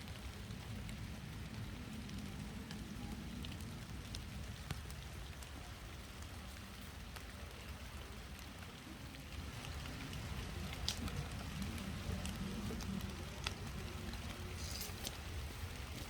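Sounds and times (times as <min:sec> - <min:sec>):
rain falling: 0:00.0 - 0:16.0
raindrops ticking close by: 0:00.0 - 0:16.0.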